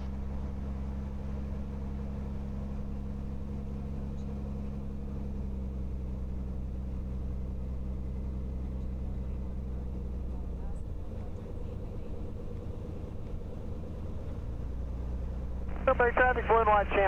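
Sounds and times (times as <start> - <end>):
aircraft piston engine droning: 0.0 - 17.0.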